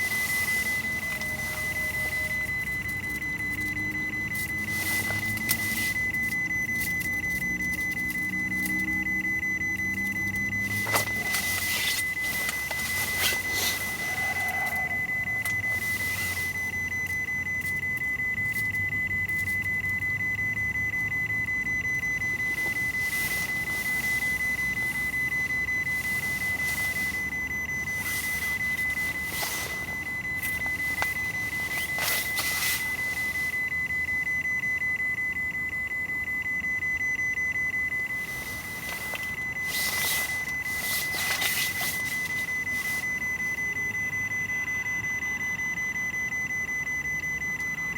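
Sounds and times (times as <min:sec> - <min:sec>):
high-pitched electronic tone: 0:00.0 - 0:45.3.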